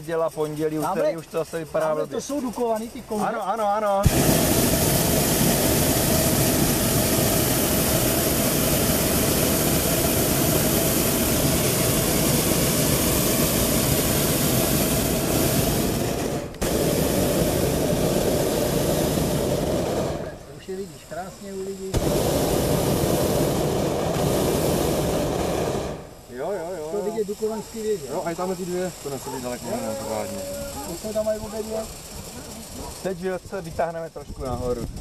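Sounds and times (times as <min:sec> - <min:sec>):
propane burner roaring: 0:00.0 - 0:35.0.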